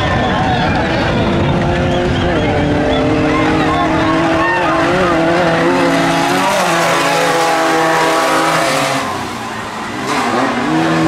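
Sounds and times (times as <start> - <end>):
buggy engines racing: 0.0 - 11.0.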